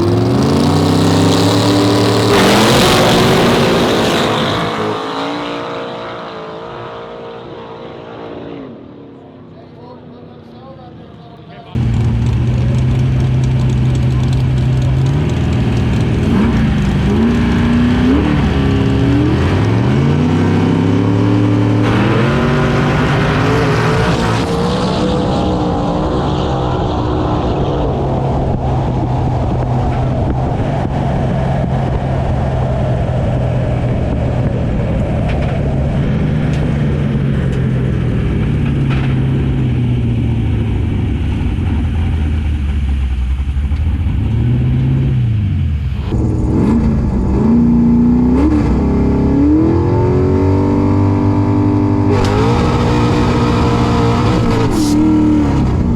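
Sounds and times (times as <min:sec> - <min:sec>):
car engine revving: 0:00.0 - 0:09.4, 0:11.6 - 0:55.9.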